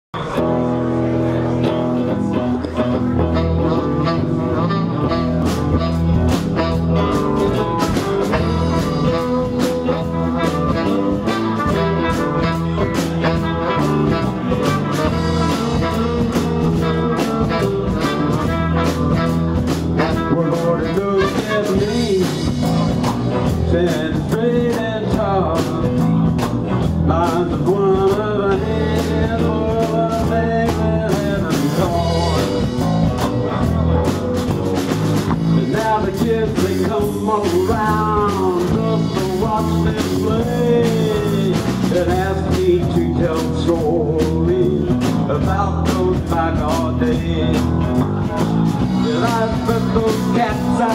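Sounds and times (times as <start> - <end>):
horn section: 0.2 - 50.9
live blues band playing: 0.2 - 50.9
steady drum beat: 1.7 - 50.9.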